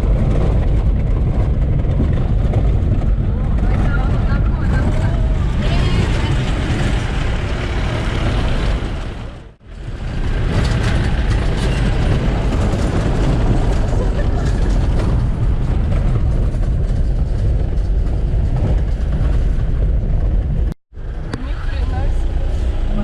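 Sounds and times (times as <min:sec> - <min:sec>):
jeep engine and road rumble: 0:00.0 - 0:23.0.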